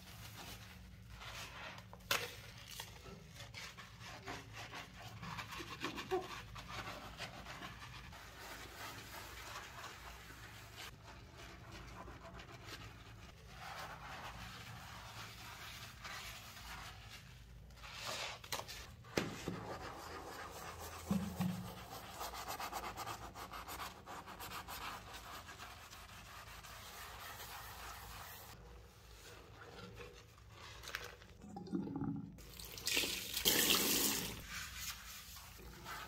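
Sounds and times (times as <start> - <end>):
sponge scrubbing sink: 0.0 - 31.4, 32.2 - 36.0.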